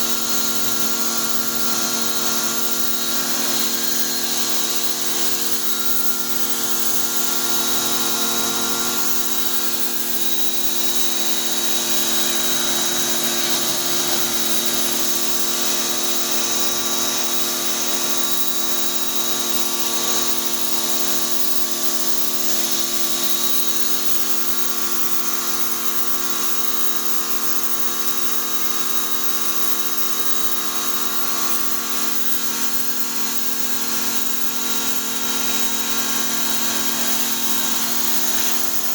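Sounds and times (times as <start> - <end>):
water jet hissing: 0.0 - 32.3, 33.4 - 38.9
pressure washer motor hum: 0.0 - 38.9.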